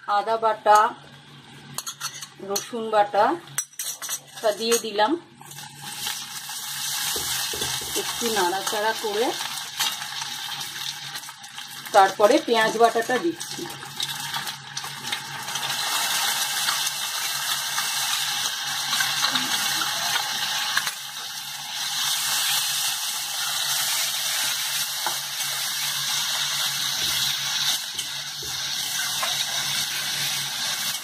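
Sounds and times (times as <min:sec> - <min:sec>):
pastes sizzling in hot oil: 0:05.4 - 0:31.0.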